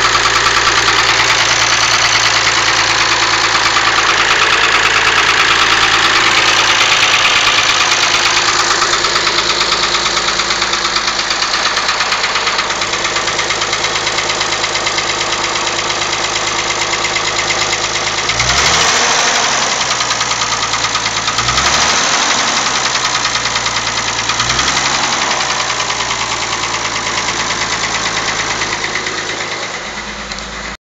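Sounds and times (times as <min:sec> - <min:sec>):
car engine idling with knocking: 0:00.0 - 0:30.8
car engine revving: 0:00.0 - 0:30.8.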